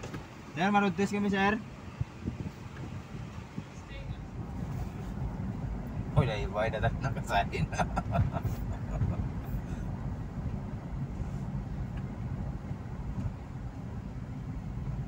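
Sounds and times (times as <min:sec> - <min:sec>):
engine and tyre rumble in car: 0:00.0 - 0:15.0.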